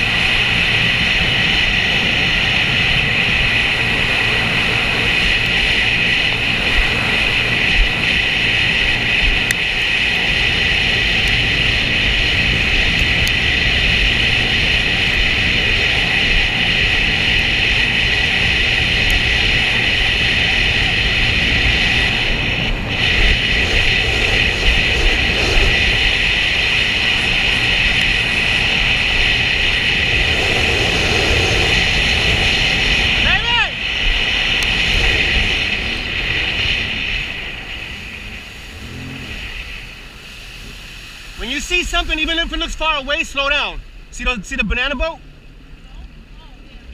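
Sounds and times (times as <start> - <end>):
jet ski engine droning with high whine: 0.0 - 46.9.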